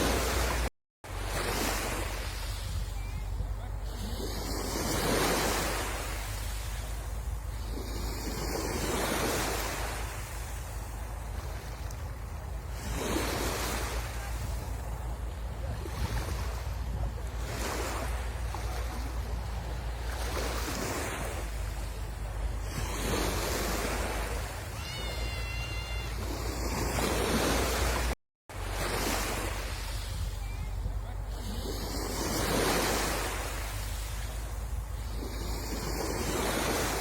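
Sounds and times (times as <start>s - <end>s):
sea waves washing up shore: 0.0s - 37.0s
wind rumbling on microphone: 0.0s - 37.0s.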